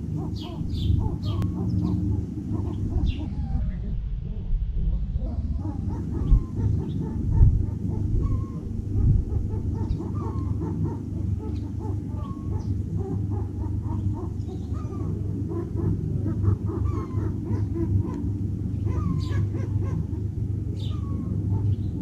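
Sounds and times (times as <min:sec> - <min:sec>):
chickens clucking: 0:00.0 - 0:03.8, 0:05.2 - 0:22.0
low rumble: 0:00.0 - 0:22.0.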